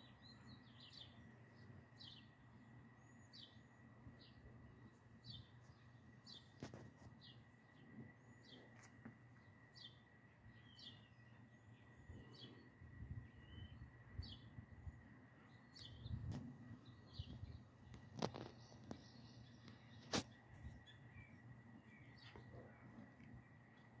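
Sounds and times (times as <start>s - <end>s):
low outdoor hum: 0.0s - 24.0s
small bird chirps: 3.0s - 14.6s, 15.4s - 24.0s.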